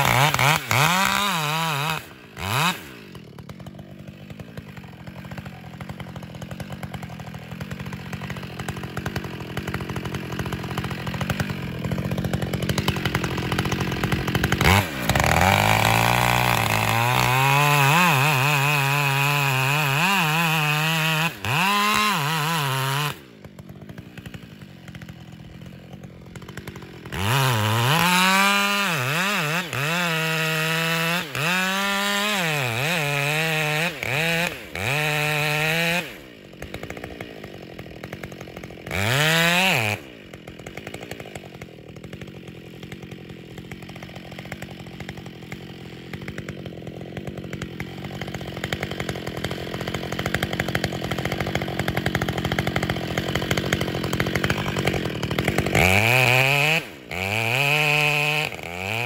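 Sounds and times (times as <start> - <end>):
chainsaw cutting tree: 0.0 - 59.0.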